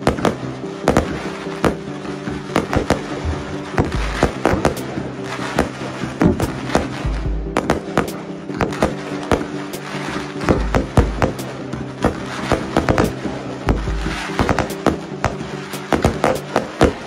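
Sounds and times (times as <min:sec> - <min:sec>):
fireworks banging: 0:00.0 - 0:17.0
music playing: 0:00.0 - 0:17.0.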